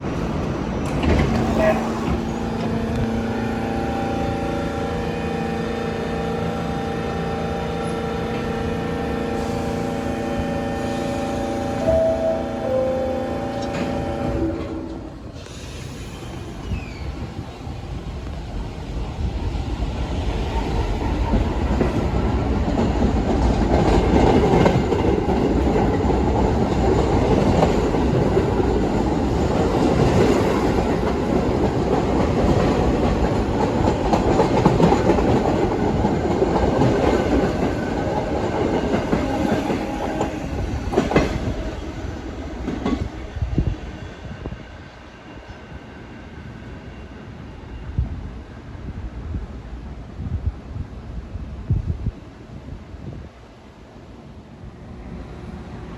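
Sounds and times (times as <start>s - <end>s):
subway train rumbling past: 0.0s - 55.9s.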